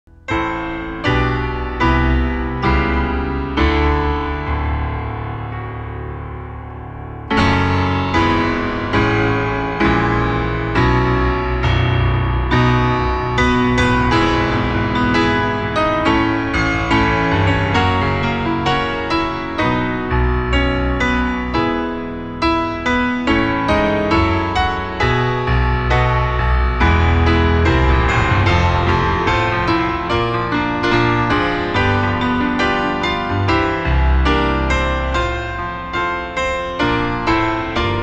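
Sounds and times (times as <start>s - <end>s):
piano chords: 0.1s - 38.0s.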